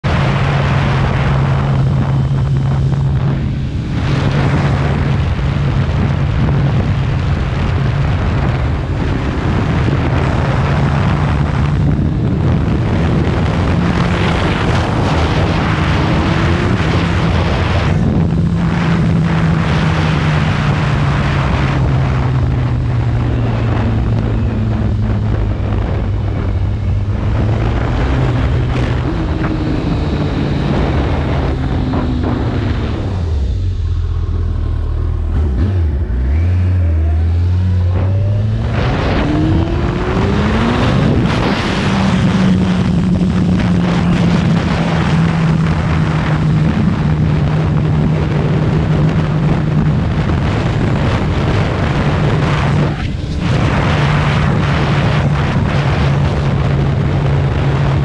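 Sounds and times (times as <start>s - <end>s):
motorcycle engine revving: 0.0s - 58.0s
wind rush on microphone: 0.0s - 58.0s.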